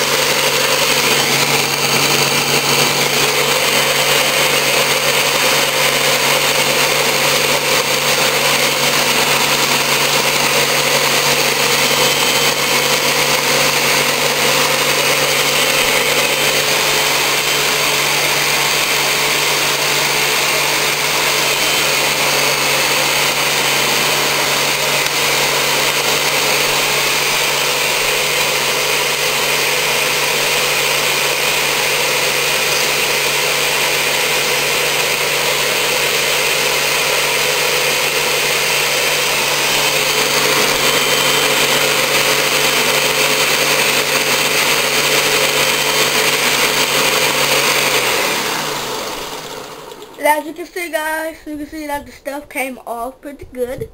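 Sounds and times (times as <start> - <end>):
blender churning frozen fruit: 0.0 - 51.3.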